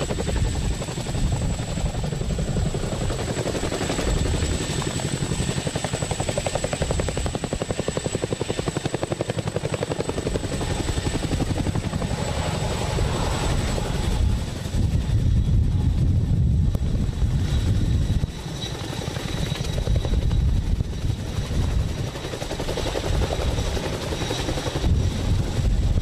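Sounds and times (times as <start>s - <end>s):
helicopter rotor beat: 0.0s - 26.0s.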